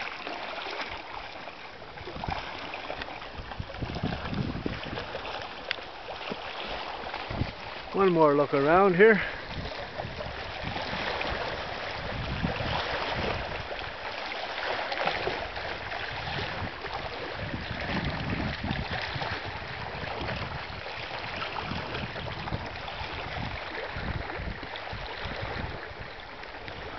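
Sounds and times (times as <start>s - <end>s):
waves lapping against rocks: 0.0s - 26.9s
wind buffeting microphone: 1.7s - 26.9s.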